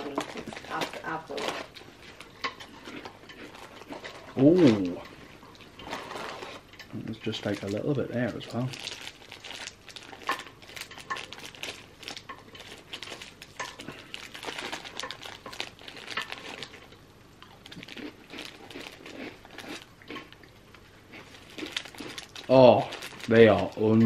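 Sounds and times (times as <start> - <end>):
snack packet crinkling: 0.0 - 5.0, 7.2 - 24.0.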